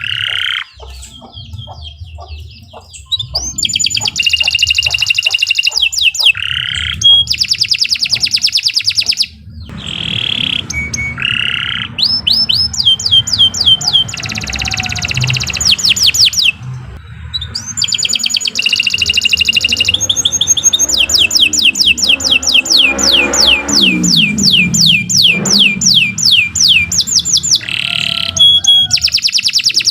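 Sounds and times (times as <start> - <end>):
canary singing: 0.0 - 29.9.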